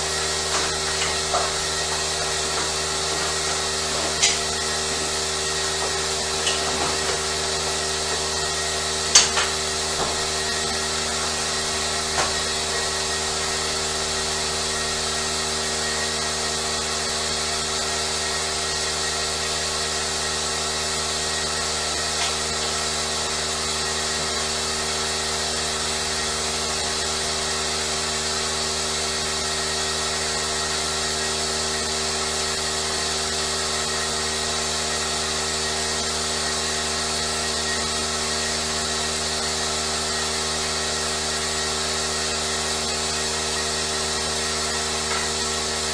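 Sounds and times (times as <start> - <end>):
electric shears whirring: 0.0 - 45.9.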